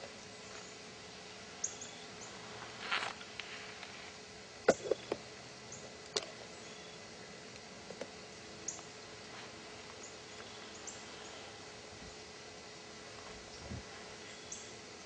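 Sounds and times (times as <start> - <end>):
faint steady hiss: 0.0 - 15.0
rustle: 0.0 - 15.0.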